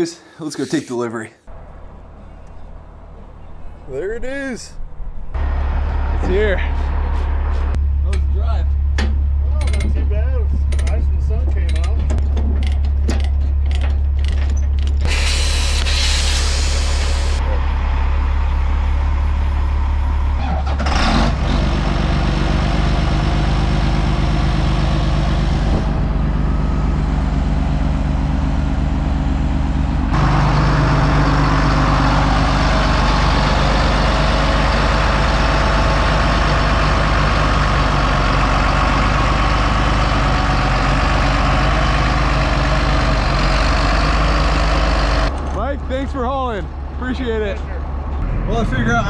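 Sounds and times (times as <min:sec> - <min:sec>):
diesel truck idling: 0:01.5 - 0:09.6, 0:15.2 - 0:49.0
deep tractor engine: 0:01.5 - 0:49.0.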